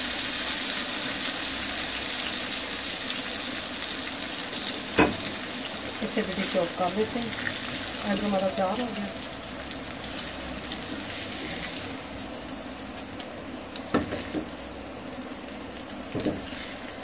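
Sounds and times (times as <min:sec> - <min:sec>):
eggs sizzling in a pan: 0:00.0 - 0:17.0.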